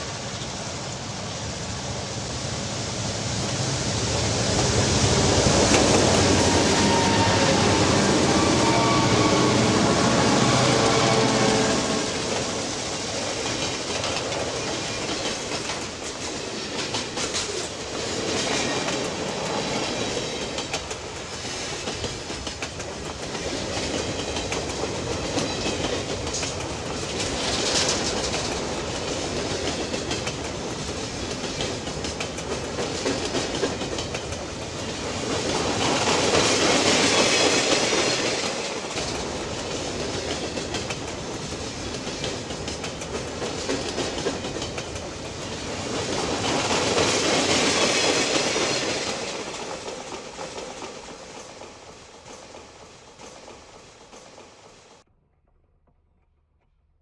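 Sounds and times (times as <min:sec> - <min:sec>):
steam train wheels clattering: 0:02.1 - 0:55.0.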